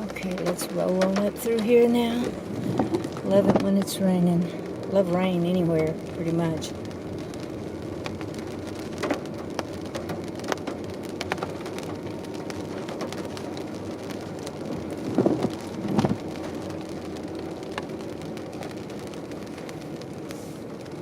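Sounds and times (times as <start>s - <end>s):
low road hum: 0.0s - 21.0s
rain on car roof: 0.0s - 21.0s.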